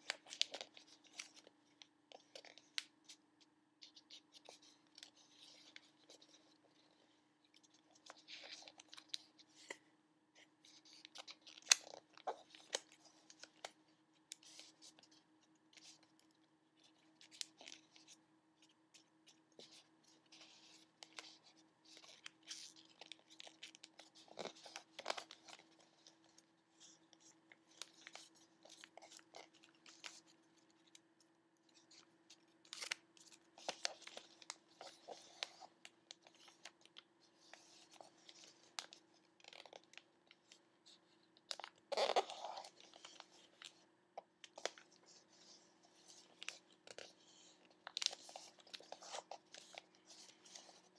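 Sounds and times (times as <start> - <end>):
paper folding and crackling: 0.0 - 3.2, 3.8 - 50.9
faint steady hum: 0.0 - 50.9.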